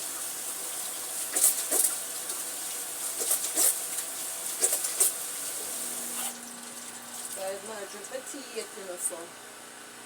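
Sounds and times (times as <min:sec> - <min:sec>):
water running from tap: 0:00.0 - 0:09.3.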